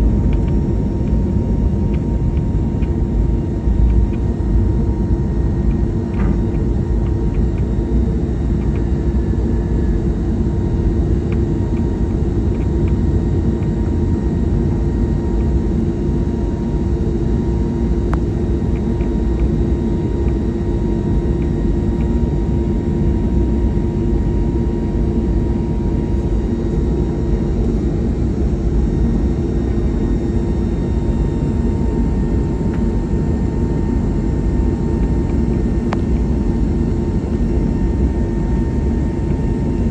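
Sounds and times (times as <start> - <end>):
airliner engine and airflow rumble: 0.0 - 39.9
steady cabin hum: 0.0 - 39.9.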